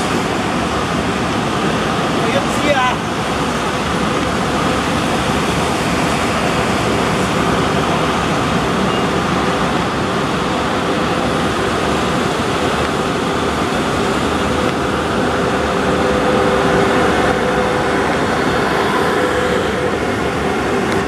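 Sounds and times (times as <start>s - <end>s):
train running noise: 0.0s - 21.0s.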